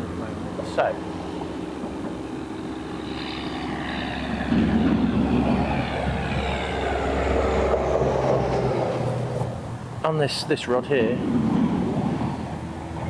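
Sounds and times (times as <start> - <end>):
engine droning past: 0.0 - 13.0.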